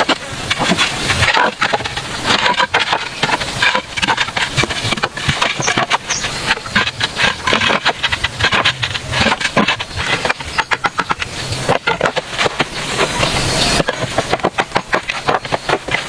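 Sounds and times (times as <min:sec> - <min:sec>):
irregular knocks and scrapes: 0:00.0 - 0:16.0.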